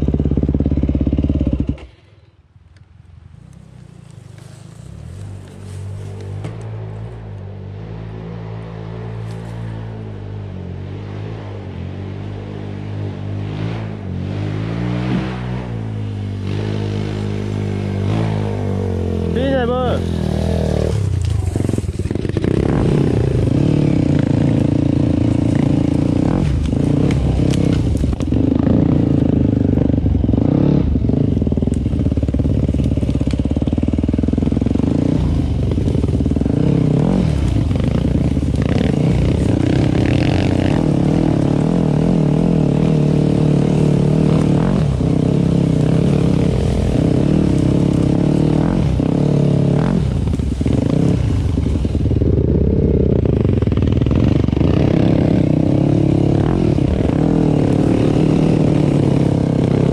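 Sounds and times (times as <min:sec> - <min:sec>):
dirt bike engine revving: 0:00.0 - 0:02.2, 0:10.9 - 0:59.9.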